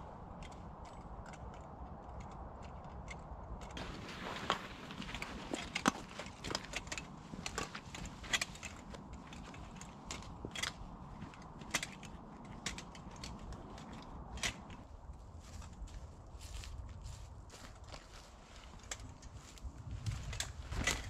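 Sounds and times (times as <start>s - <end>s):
backpack gear clinking and creaking: 0.0s - 21.0s
footsteps on forest path: 3.8s - 21.0s.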